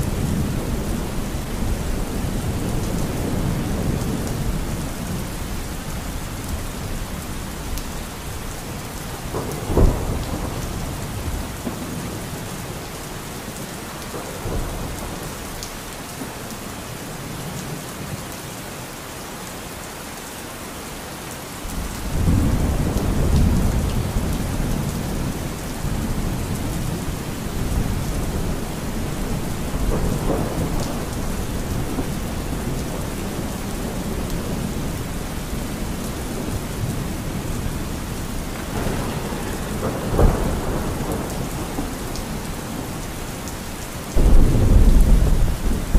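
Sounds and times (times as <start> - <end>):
low rumble of thunder: 0.0 - 12.9, 14.0 - 15.6, 21.7 - 45.9
steady rain: 0.0 - 45.9.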